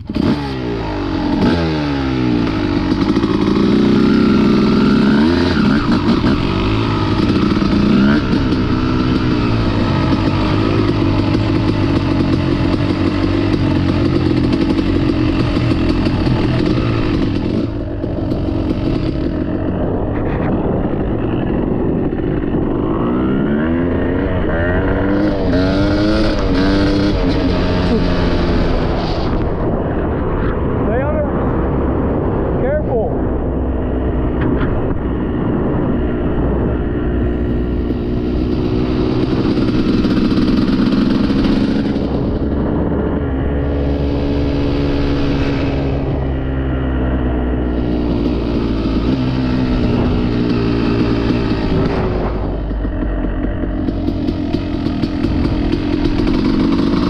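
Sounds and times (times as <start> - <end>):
two-stroke dirt bike engine revving: 0.0 - 30.0, 33.6 - 57.0.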